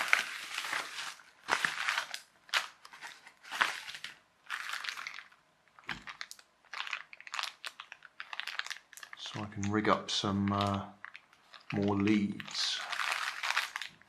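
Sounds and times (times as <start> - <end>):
plastic packaging rustling: 0.0 - 14.0.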